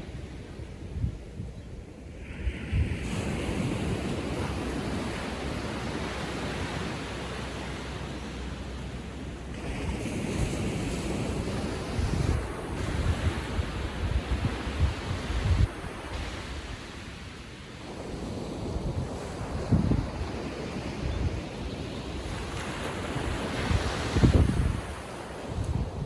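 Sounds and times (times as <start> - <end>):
wind buffeting microphone: 0.0 - 26.0
small ocean waves breaking: 1.9 - 26.0.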